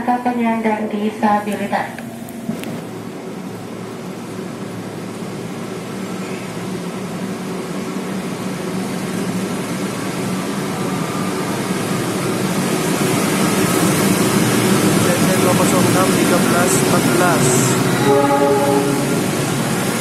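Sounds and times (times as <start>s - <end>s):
locomotive engine humming: 0.0s - 20.0s.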